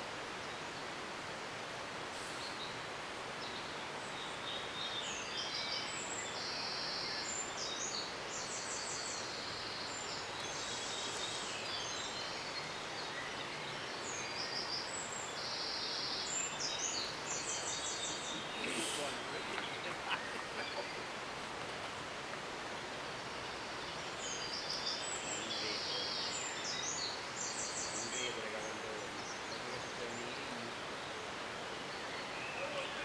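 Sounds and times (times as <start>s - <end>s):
songbird singing: 0.0s - 33.0s
steady outdoor hiss: 0.0s - 33.0s.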